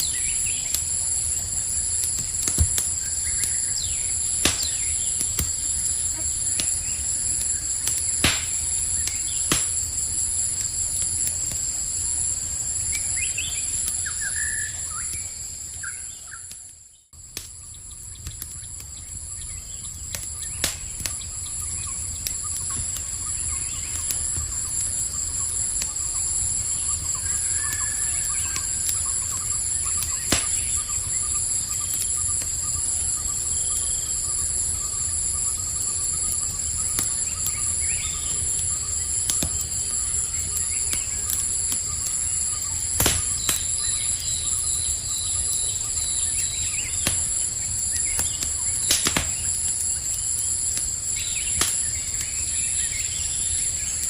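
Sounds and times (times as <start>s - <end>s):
campfire crackling and popping: 0.0s - 54.0s
high-pitched insect chorus: 0.0s - 54.0s.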